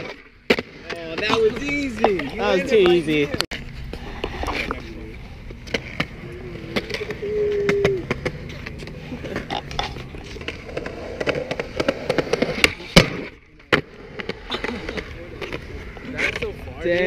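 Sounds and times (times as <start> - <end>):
skateboard wheels rolling on concrete: 0.0 - 17.0
skateboards clacking: 0.0 - 17.0.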